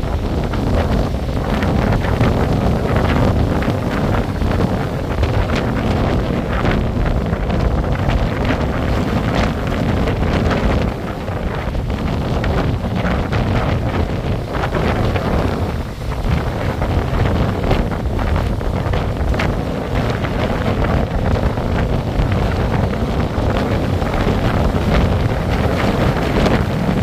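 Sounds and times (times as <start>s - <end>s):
waves breaking on shingle: 0.0s - 27.0s
wind buffeting microphone: 0.0s - 27.0s.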